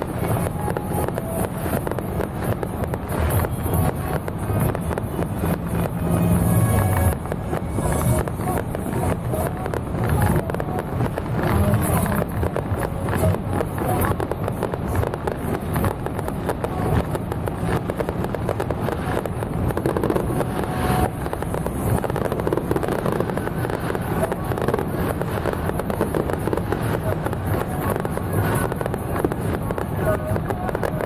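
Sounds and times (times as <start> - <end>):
firecrackers popping: 0.0 - 31.0.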